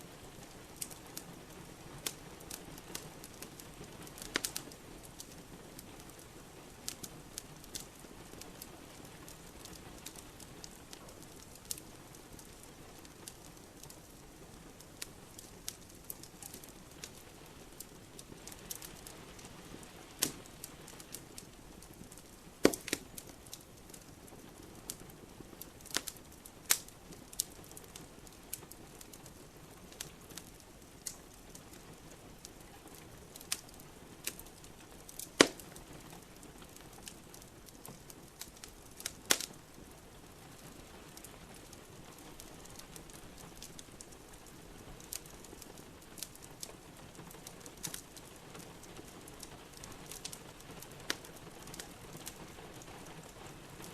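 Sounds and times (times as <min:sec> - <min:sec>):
rain hiss: 0:00.0 - 0:53.9
wood fire crackling: 0:00.0 - 0:53.9.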